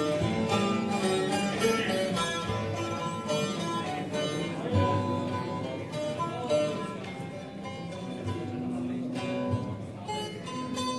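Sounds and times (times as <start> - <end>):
plucked guitar and strings music: 0.0 - 10.9.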